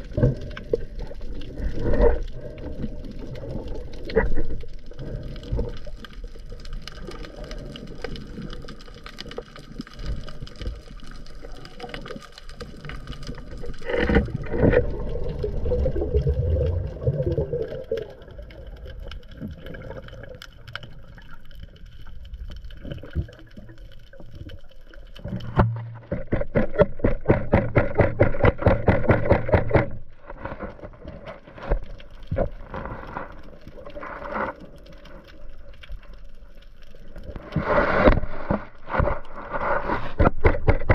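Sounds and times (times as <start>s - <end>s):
underwater hiss with crackling clicks: 0.0s - 25.6s, 26.2s - 40.9s
surge of water noise: 0.0s - 26.3s, 31.5s - 40.9s.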